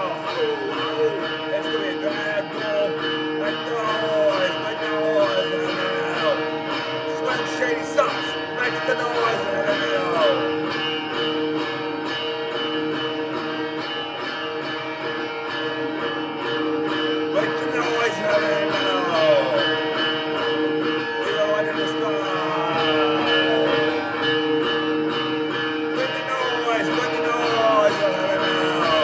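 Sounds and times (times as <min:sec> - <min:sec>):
guitar with sliding bending notes: 0:00.0 - 0:29.0.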